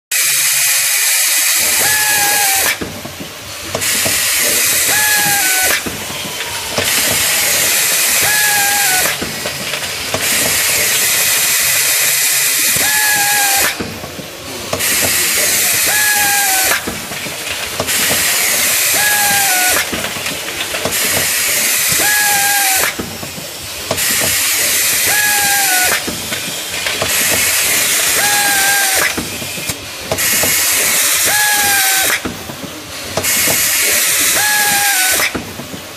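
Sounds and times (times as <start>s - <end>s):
capping machine hissing: 0.1s - 35.9s.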